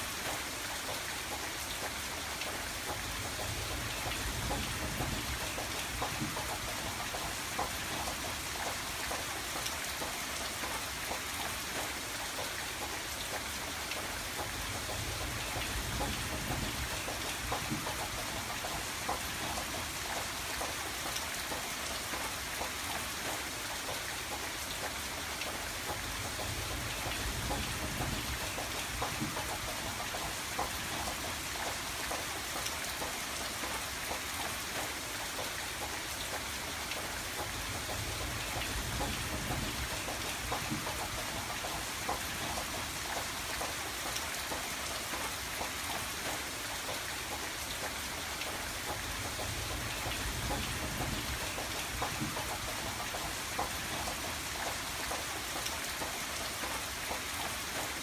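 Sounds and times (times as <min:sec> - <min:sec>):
steady rain: 0:00.0 - 0:58.0
raindrops tapping on window glass: 0:00.2 - 0:58.0.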